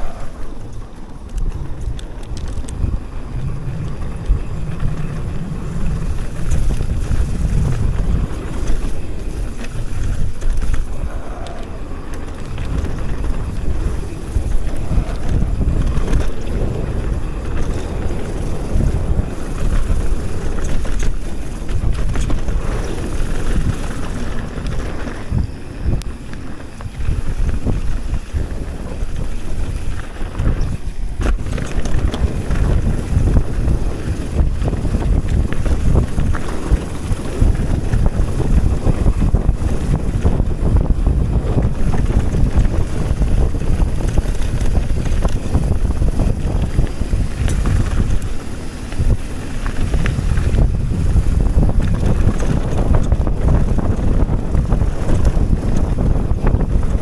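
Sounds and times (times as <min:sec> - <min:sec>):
tyres rolling on packed dirt: 0:00.0 - 0:57.0
wind buffeting microphone: 0:00.0 - 0:57.0.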